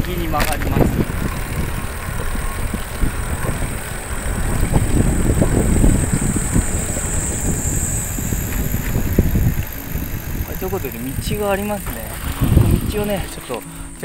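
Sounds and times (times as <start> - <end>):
bicycle tyre noise on road: 0.0 - 14.0
wind rumbling on microphone: 0.0 - 14.0
high-pitched hiss: 0.1 - 14.0.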